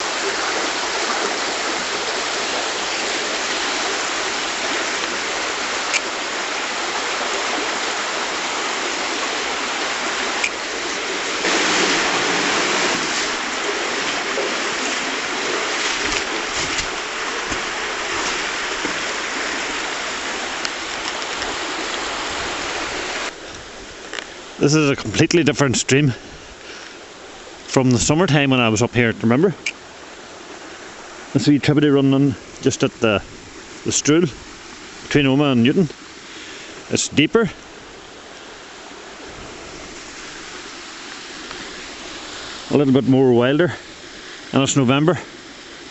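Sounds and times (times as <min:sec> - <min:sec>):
stream rushing: 0:00.0 - 0:45.9.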